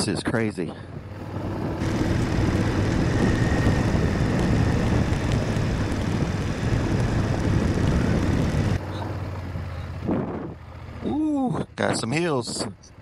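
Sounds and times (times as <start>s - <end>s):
wind rushing over microphone: 0.0s - 8.8s, 9.5s - 13.0s
motorcycle engine running: 0.8s - 13.0s.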